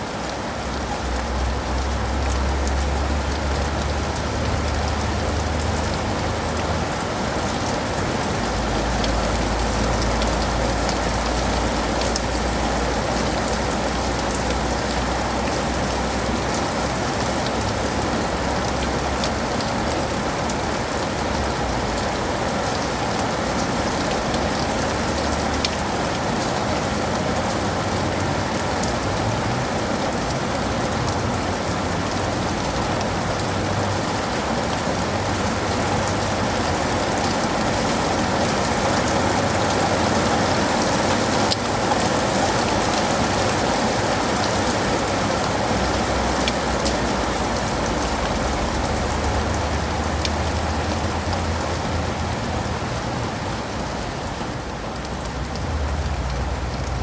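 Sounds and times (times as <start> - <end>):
rain on leaves and pavement: 0.0 - 57.0.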